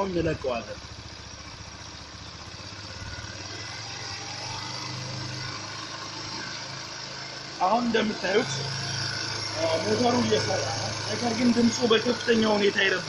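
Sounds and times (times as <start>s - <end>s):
motorcycle engine idling high: 0.0s - 13.0s.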